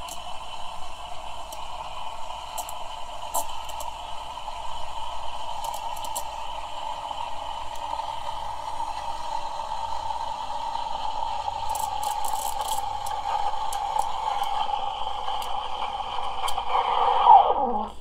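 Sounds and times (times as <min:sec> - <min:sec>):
steam wand hissing and whistling: 0:00.0 - 0:18.0.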